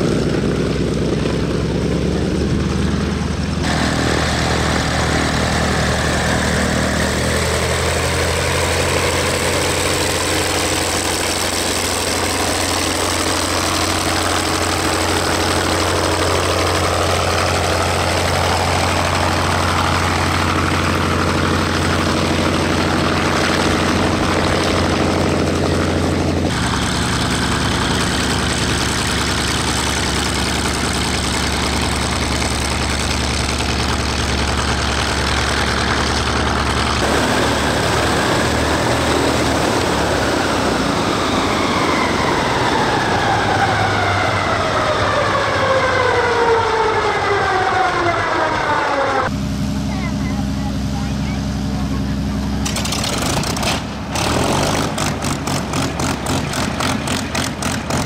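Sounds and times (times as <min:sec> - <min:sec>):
radial aircraft engine running: 0:00.0 - 0:58.0.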